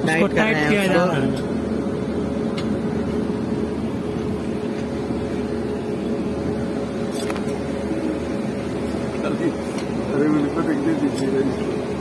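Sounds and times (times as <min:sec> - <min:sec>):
locomotive engine idling hum: 0:00.0 - 0:12.0.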